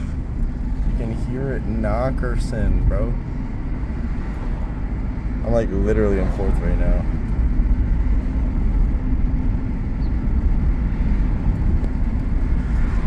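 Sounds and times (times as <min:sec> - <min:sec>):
car engine running under load: 0:00.0 - 0:13.0
road noise: 0:00.0 - 0:13.0.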